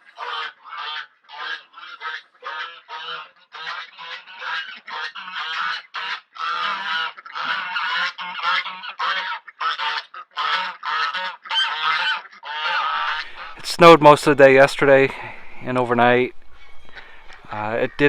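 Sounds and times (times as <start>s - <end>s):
geese honking: 0.0s - 18.0s.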